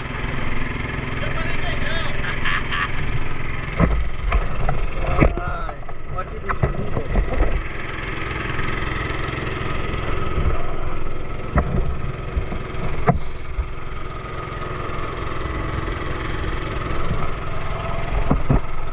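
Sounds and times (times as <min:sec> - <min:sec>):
boat engine running: 0:00.0 - 0:18.9.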